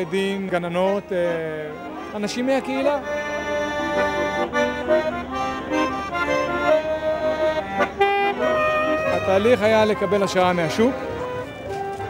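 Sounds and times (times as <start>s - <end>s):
piano accordion playing a tune: 0.0s - 12.0s.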